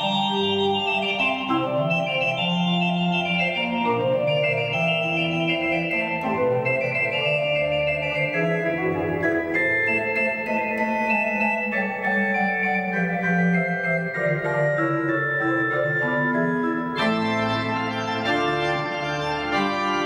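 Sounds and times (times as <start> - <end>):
pipe organ playing: 0.0 - 20.0.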